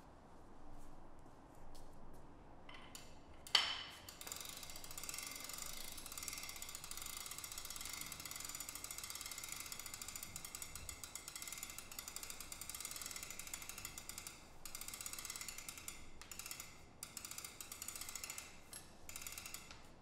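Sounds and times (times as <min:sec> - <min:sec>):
ratchet pawl clicking: 0:02.7 - 0:20.0.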